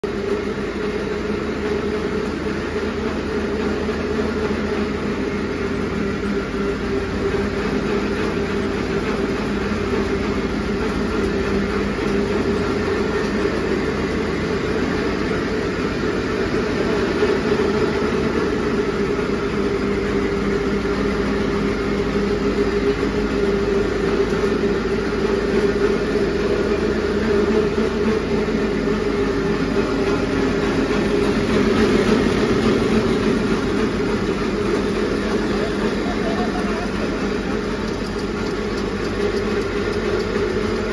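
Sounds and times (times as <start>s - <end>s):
tractor engine and mill machinery drone: 0.0s - 40.9s.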